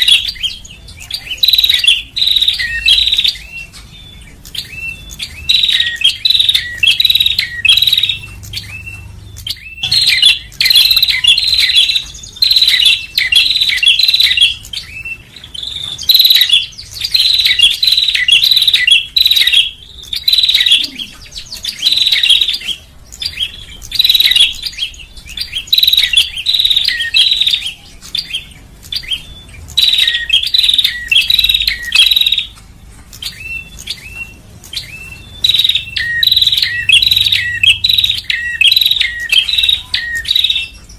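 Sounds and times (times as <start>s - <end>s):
bird song sharp chirps: 0.0s - 40.9s.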